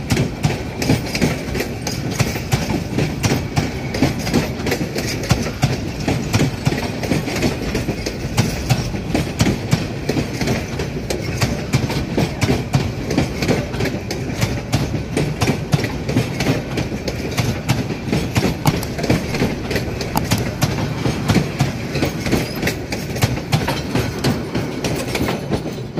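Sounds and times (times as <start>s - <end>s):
train carriages rumbling past: 0.0s - 25.9s
wheels clattering over rail joints: 0.1s - 25.9s.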